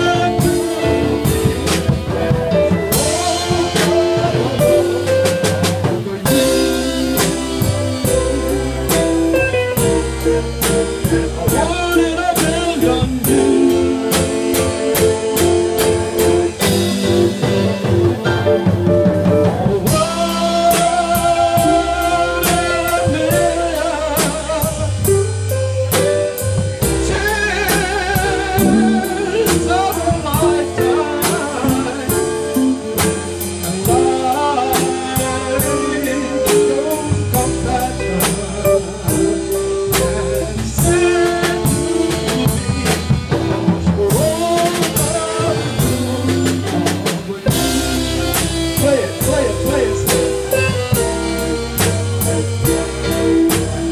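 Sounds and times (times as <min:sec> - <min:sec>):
drum kit steady beat: 0:00.0 - 0:53.9
electric guitar: 0:00.0 - 0:53.9
man singing: 0:00.0 - 0:53.9.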